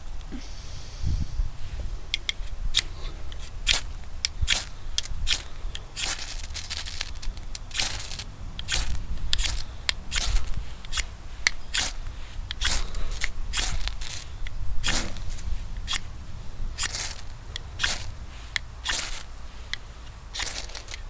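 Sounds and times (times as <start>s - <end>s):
ferro rod scraping knife spine: 2.1s - 16.1s, 16.8s - 21.0s.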